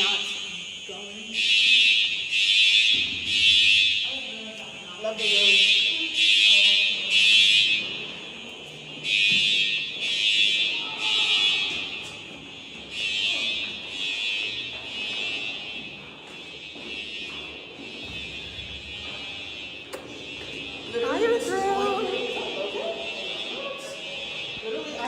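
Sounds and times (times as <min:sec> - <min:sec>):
fire alarm blasts: 0:00.0 - 0:25.0.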